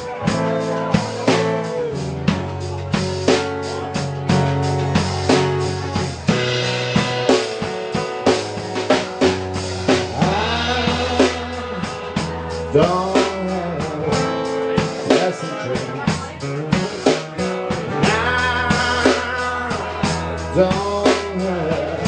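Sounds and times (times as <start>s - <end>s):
acoustic guitars strumming: 0.0s - 22.0s
drum kit steady beat: 0.0s - 22.0s
sliding bending guitar notes: 0.0s - 22.0s.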